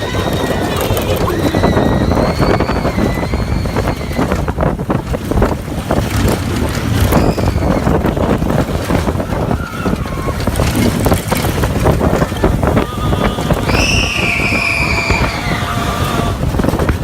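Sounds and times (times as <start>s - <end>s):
roller coaster rumble and rattle: 0.0s - 17.0s
wind buffeting microphone: 0.0s - 17.0s.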